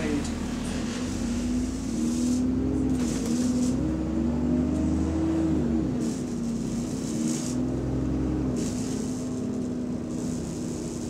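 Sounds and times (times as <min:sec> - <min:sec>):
bus engine and cooling fan drone: 0:00.0 - 0:11.0.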